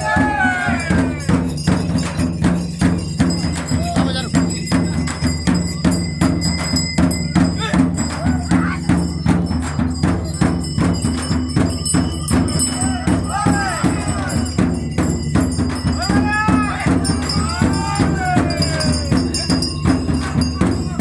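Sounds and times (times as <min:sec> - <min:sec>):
rhythmic drums and jingling percussion: 0:00.0 - 0:21.0.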